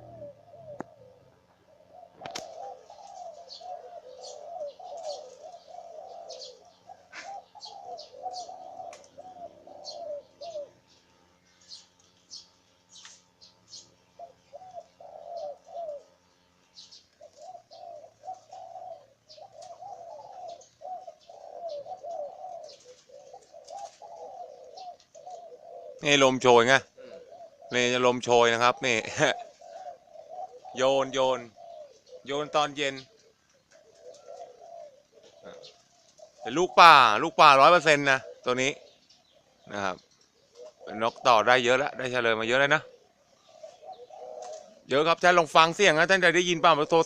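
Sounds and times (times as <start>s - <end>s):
dove cooing: 0.0s - 47.0s
small birds chirping: 0.0s - 47.0s.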